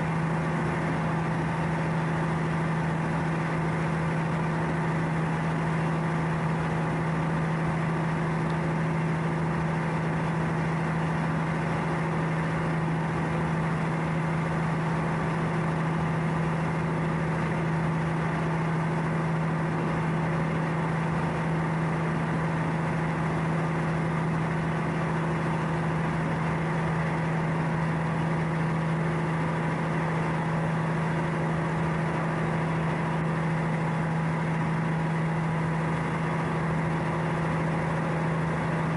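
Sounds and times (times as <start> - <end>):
ship engine droning: 0.0 - 38.9.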